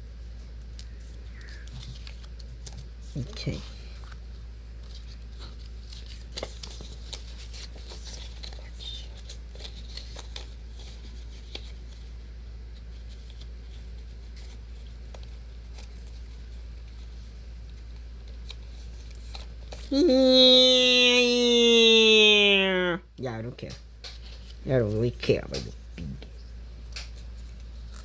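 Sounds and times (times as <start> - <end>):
paper rustling and crinkling: 0.1 - 20.0, 24.1 - 28.0.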